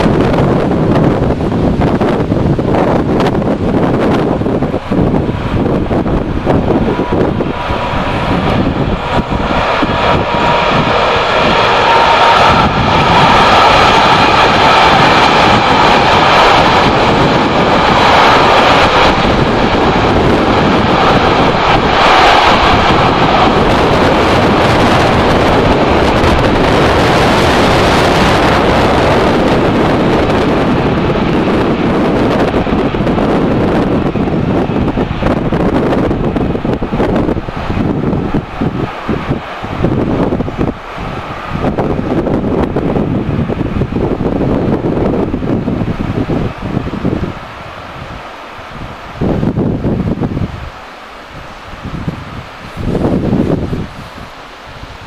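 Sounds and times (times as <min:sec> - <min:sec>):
distant freight train passing: 0:00.0 - 0:55.0
high steady train whine: 0:00.0 - 0:55.0
wind buffeting microphone: 0:00.0 - 0:55.0.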